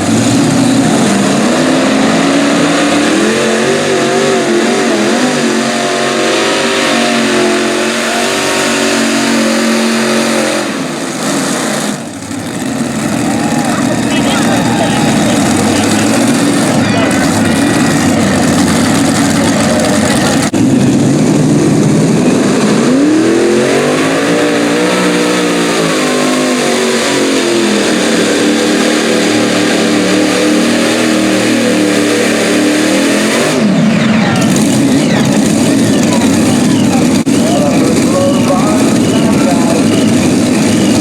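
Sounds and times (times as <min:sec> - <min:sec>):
pulling tractor engines at full throttle: 0:00.0 - 0:41.0.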